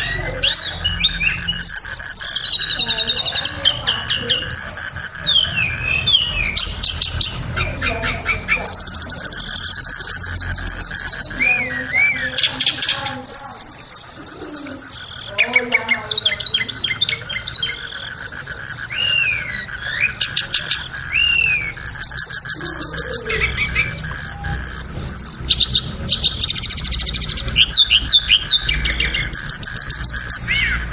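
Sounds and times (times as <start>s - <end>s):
songbird singing trills and whistles: 0.0s - 30.9s.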